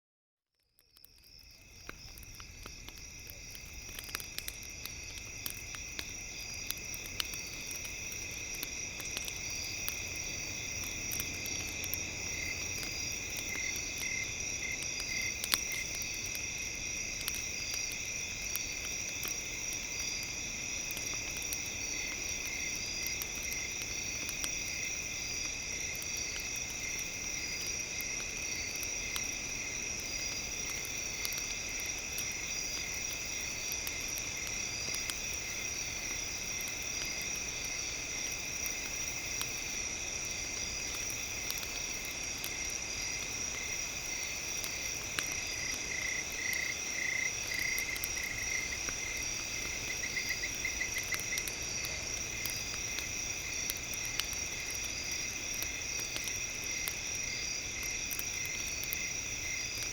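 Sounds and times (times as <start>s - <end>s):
campfire crackling and popping: 0.8s - 59.9s.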